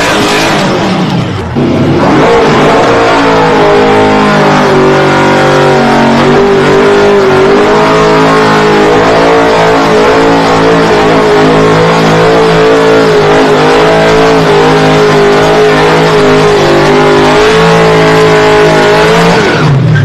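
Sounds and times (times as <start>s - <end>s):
engine at high revs: 0.0s - 20.0s.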